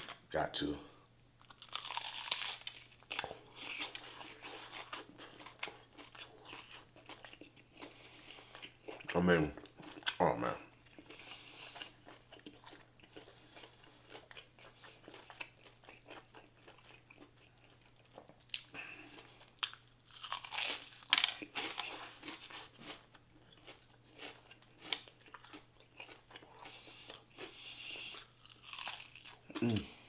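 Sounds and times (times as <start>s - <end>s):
chewing crispy fried chicken: 1.4s - 30.0s.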